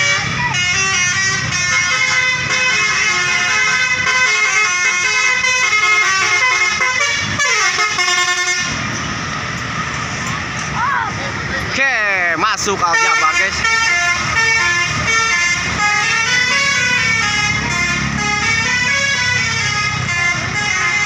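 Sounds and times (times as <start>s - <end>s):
multi-tone bus air horn melody: 0.0s - 8.9s, 12.8s - 21.0s.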